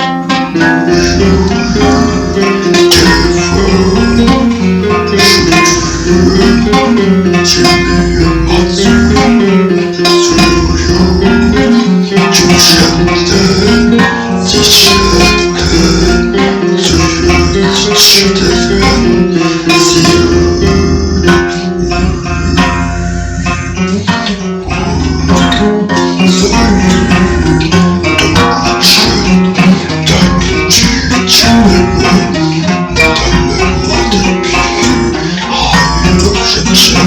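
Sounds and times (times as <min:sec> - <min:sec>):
plucked guitar: 0:00.0 - 0:37.0.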